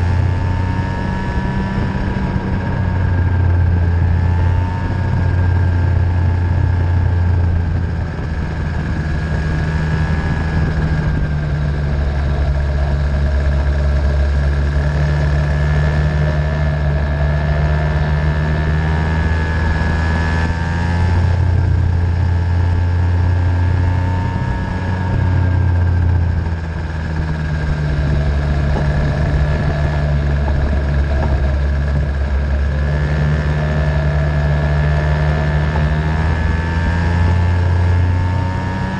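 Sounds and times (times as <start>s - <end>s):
racing engine revving: 0.0s - 38.9s.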